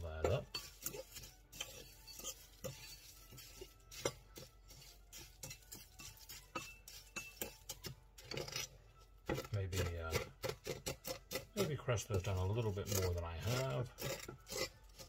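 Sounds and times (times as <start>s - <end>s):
utensil stirring dry mix in bowl: 0.0s - 15.0s.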